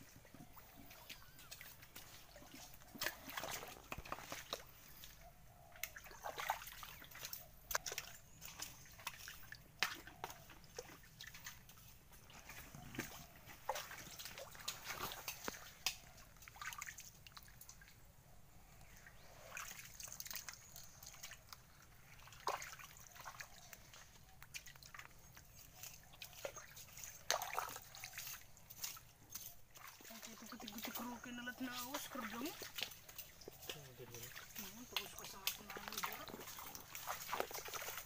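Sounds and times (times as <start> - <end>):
hands sloshing in mud and water: 0.0 - 18.2, 18.8 - 38.0.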